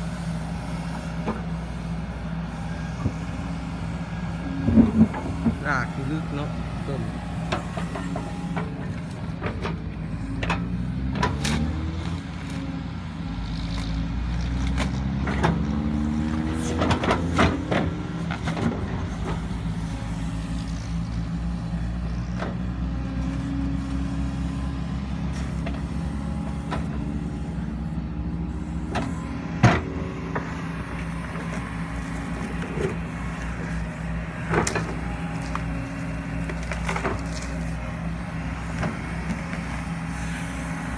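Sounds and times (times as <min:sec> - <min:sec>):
excavator diesel engine revving: 0:00.0 - 0:40.9.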